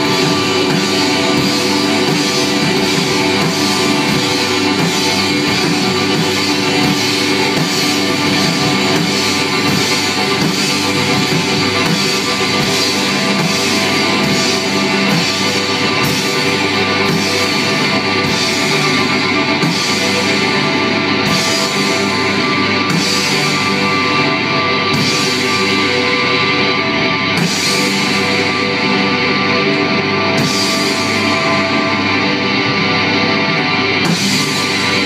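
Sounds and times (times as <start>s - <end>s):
live rock band: 0.0s - 35.0s.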